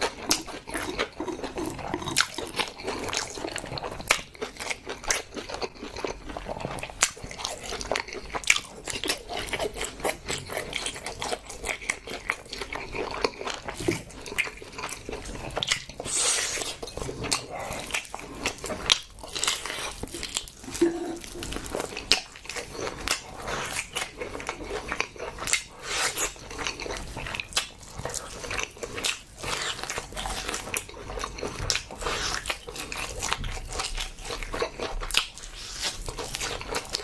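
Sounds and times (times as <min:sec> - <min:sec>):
chewing and biting food: 0:00.0 - 0:37.0.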